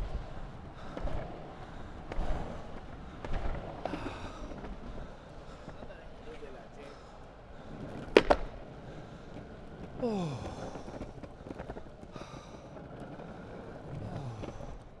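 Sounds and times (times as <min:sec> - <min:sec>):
longboard wheels rolling on pavement: 0:00.0 - 0:15.0.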